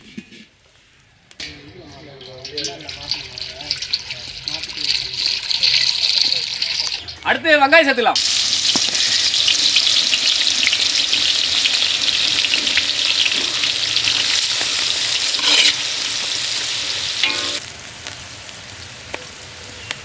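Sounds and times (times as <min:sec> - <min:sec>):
onions sizzling in hot oil: 0:01.4 - 0:07.3, 0:08.2 - 0:20.0.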